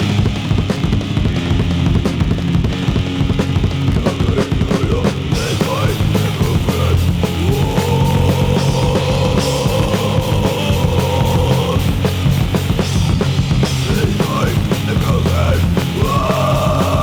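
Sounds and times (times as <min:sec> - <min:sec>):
drums and bass pounding: 0:00.0 - 0:17.0
punk rock band playing: 0:00.0 - 0:17.0.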